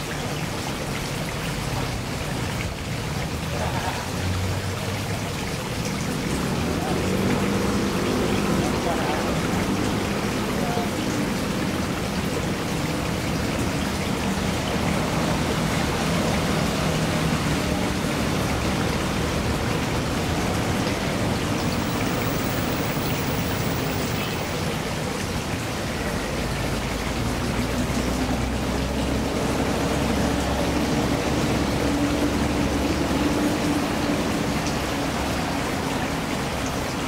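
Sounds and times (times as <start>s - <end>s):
water splashing into pond: 0.0s - 37.0s.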